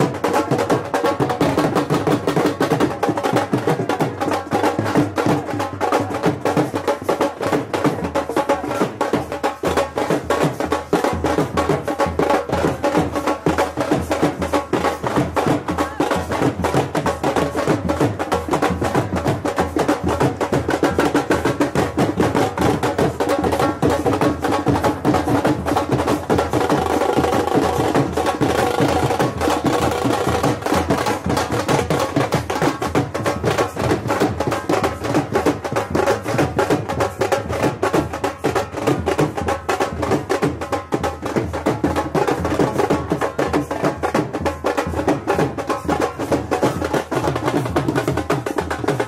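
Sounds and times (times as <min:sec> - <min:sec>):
music with fast drumming: 0:00.0 - 0:49.0.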